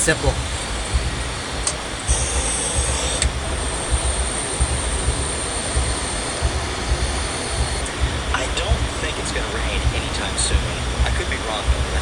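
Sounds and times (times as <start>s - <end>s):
electric fan blowing air: 0.0s - 12.0s
high-pitched whine: 0.0s - 12.0s
low buffeting: 0.0s - 12.0s.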